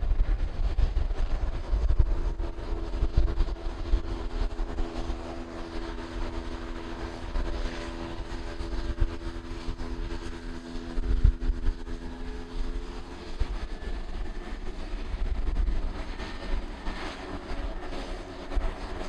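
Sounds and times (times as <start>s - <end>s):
turboprop propeller drone: 0.0s - 19.0s
wind rumble on microphone: 0.0s - 19.0s.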